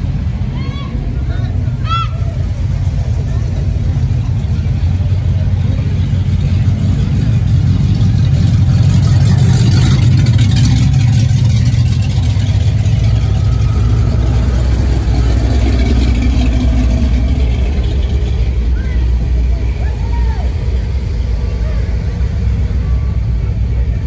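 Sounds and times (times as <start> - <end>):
cars passing with engine rumble: 0.0 - 24.0.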